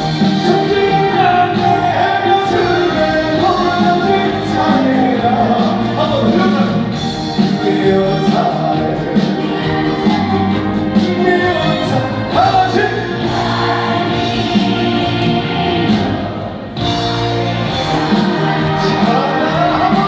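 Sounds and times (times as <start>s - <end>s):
person singing over a live band: 0.0s - 20.0s.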